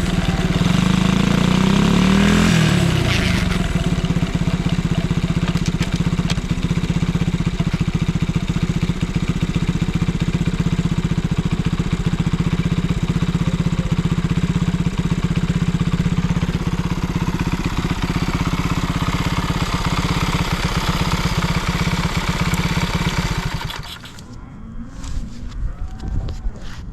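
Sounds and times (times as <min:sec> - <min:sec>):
small engine idling: 0:00.0 - 0:24.4.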